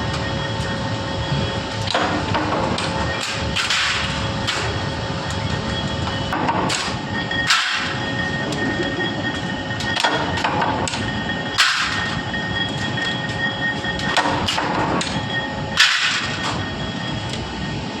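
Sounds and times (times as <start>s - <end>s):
machinery whining: 0.0s - 18.0s
metal clanks and knocks: 1.8s - 17.3s.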